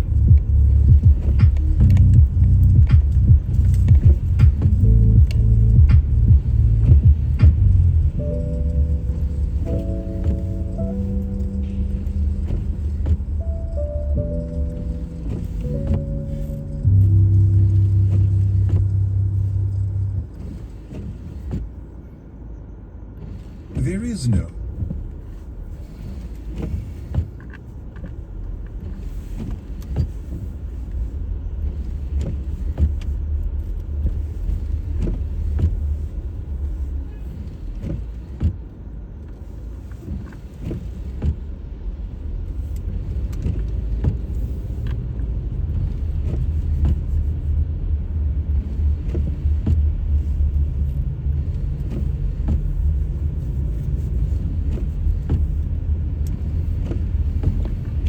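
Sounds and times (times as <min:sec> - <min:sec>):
road and engine rumble in car: 0:00.0 - 0:58.0.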